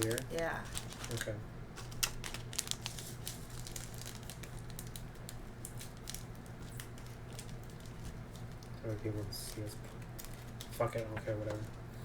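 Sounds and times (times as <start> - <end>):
plastic packet crinkling: 0.0 - 11.8.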